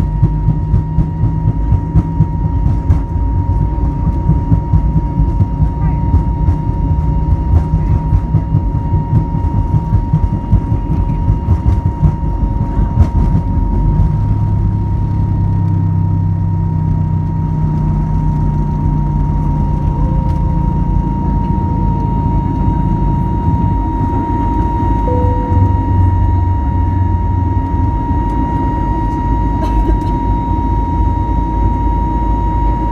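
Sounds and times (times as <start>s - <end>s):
jet engines whining: 0.0s - 32.7s
wheels rumbling on runway: 0.0s - 32.9s.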